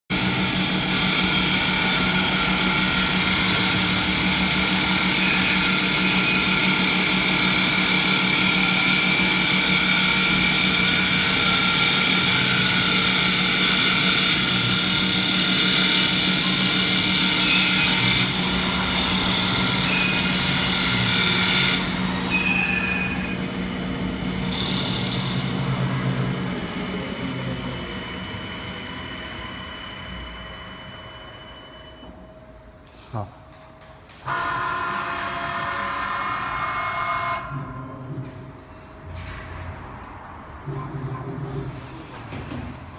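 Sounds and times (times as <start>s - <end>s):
lathe machine hum and whine: 0.1s - 32.8s, 34.2s - 40.7s.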